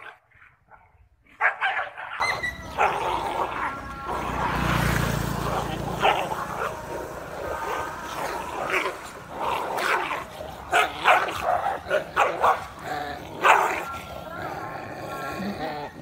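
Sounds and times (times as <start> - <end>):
dogs fighting barking and yelping: 0.0 - 16.0.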